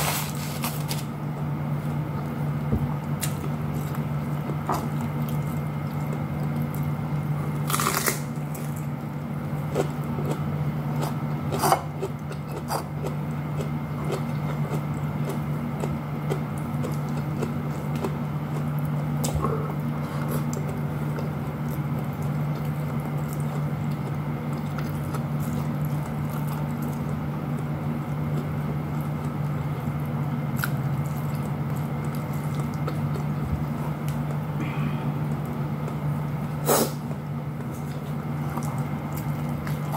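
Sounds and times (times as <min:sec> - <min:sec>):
steady low hum: 0:00.0 - 0:39.9
person chewing food: 0:01.8 - 0:39.9.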